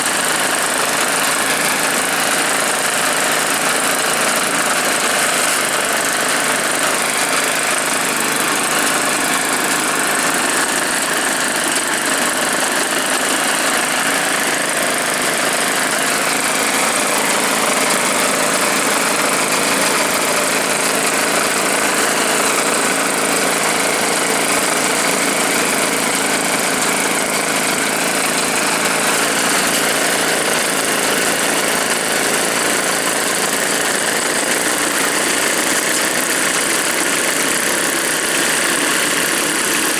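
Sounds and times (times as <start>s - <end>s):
two-stroke snowblower engine running: 0.0s - 39.9s.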